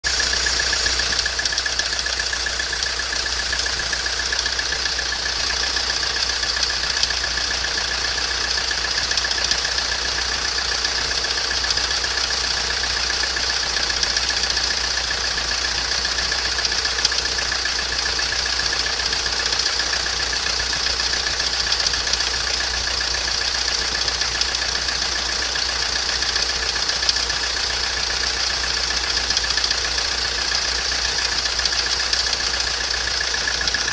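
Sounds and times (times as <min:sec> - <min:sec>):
diesel engine running: 0:00.0 - 0:33.9
pulley bearing knocking rapidly: 0:00.0 - 0:33.9.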